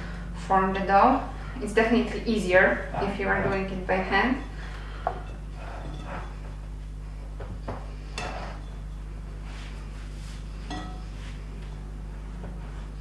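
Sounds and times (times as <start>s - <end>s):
dough kneaded in a bowl: 0.0s - 13.0s
steady low hum: 0.0s - 13.0s.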